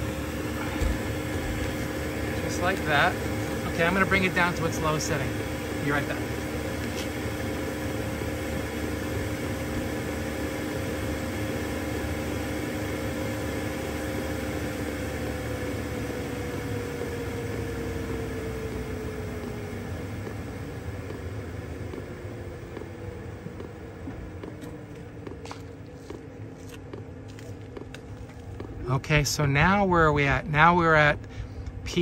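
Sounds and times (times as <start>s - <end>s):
diesel heater whirring hum: 0.0s - 32.0s.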